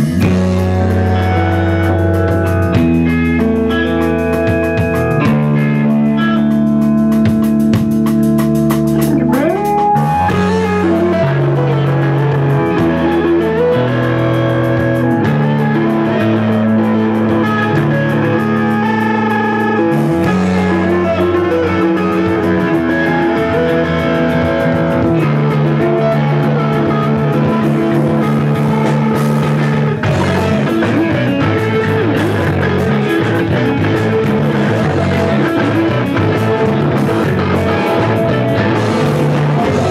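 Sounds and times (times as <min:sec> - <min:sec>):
electric guitar slide: 0:00.0 - 0:39.9
rock band playing: 0:00.0 - 0:39.9.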